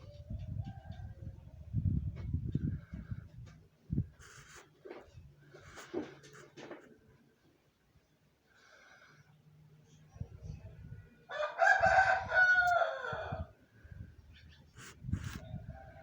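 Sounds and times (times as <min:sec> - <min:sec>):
low rumble of wind or handling: 0:00.0 - 0:07.3, 0:09.8 - 0:16.0.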